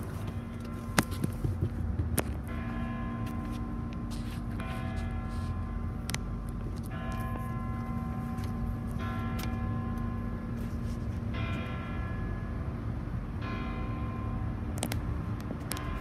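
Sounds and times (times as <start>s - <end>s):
church bell ringing: 0.0s - 1.3s, 2.4s - 14.7s, 15.7s - 16.0s
low rumble of traffic: 0.0s - 16.0s.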